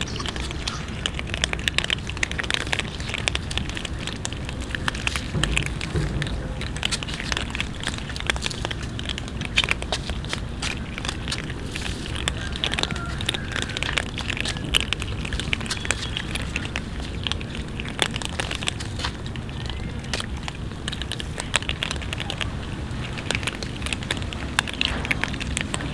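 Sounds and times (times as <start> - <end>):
cats crunching food: 0.0 - 25.9.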